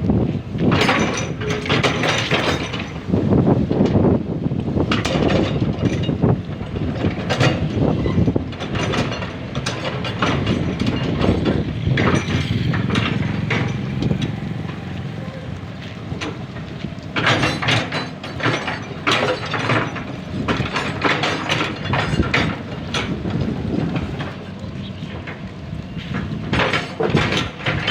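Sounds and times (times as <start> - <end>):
excavator diesel engine running: 0.0 - 27.9
sharp metallic clanks and knocks: 0.6 - 4.1, 4.8 - 15.0, 15.8 - 27.9.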